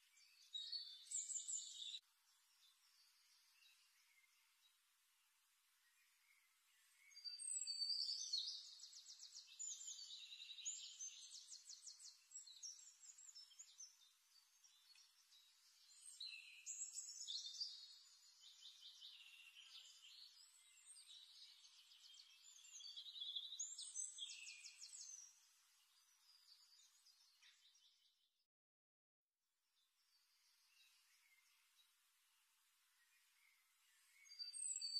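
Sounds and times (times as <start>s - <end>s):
birds chirping and trilling: 0.0s - 4.8s, 5.9s - 28.2s, 30.1s - 32.0s, 32.9s - 34.9s.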